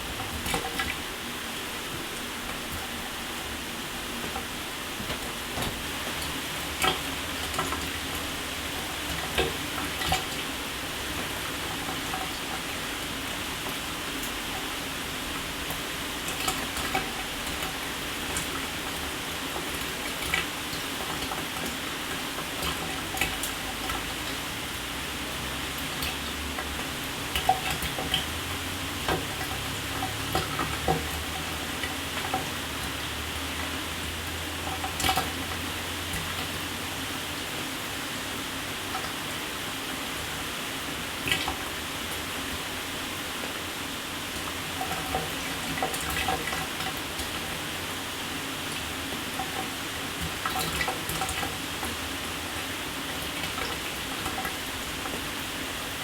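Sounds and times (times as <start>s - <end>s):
drips and splashes: 0.0s - 43.4s, 44.2s - 56.0s.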